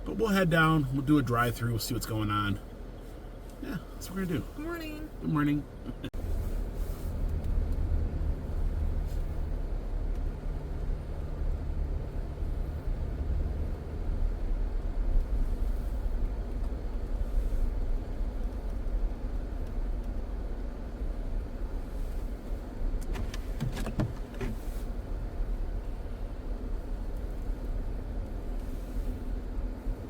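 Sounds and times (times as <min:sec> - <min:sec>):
car engine and tyre rumble: 0:00.0 - 0:30.0.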